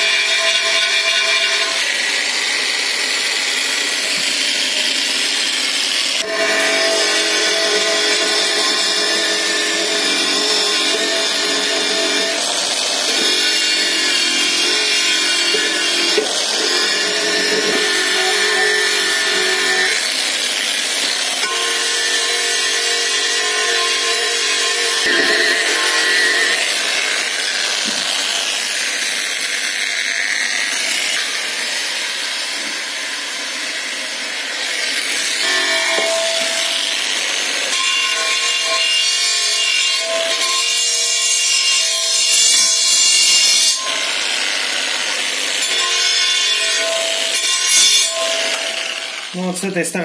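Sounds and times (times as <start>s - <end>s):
angle grinder motor whine: 0.0s - 49.4s.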